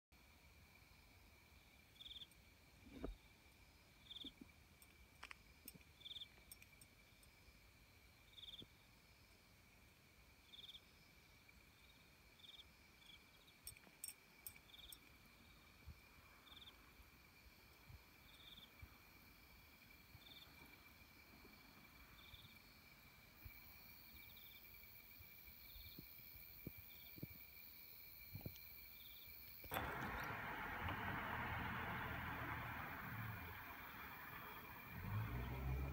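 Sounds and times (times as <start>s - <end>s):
insect chirps: 0.2s - 35.9s.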